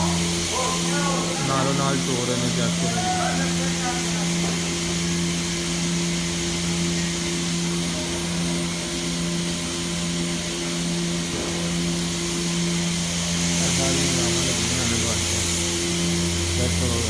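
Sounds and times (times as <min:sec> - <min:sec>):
milking machine hiss: 0:00.0 - 0:17.0
milking machine hum: 0:00.0 - 0:17.0.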